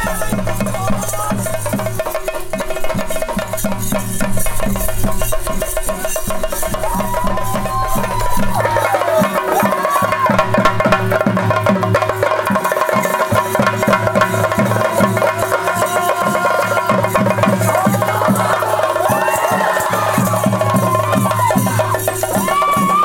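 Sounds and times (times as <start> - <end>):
cymbals: 0.0 - 23.0
stick-beaten drums: 0.0 - 23.0.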